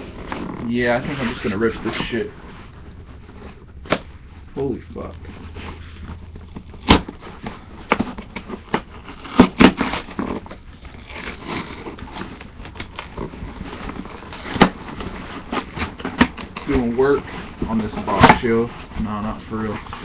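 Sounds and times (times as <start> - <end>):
cardboard scraping and rustling: 0.0 - 20.0.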